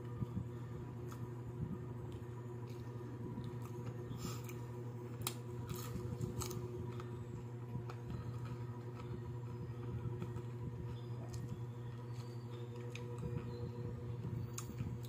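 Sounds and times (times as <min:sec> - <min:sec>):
steady low hum: 0:00.0 - 0:15.0
crunchy chewing: 0:02.0 - 0:15.0.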